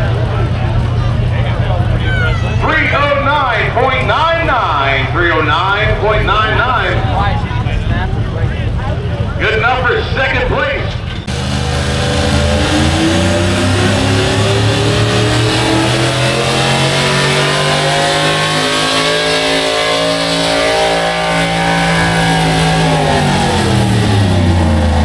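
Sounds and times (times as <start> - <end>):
truck engine at high revs: 0.0 - 25.0.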